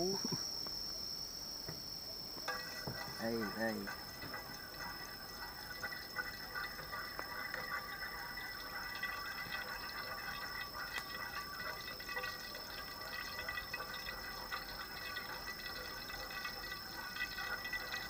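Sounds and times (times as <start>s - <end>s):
oil crackling in a frying pan: 2.4s - 18.0s.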